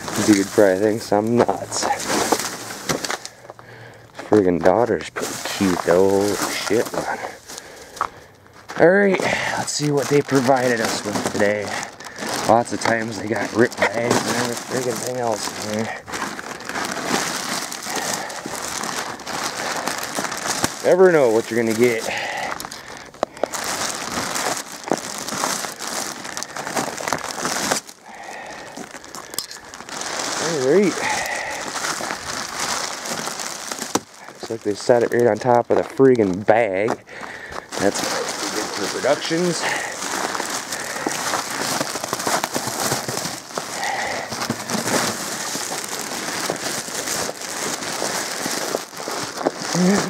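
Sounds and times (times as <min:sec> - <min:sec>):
plastic wrapping crinkling: 0:00.0 - 0:50.0.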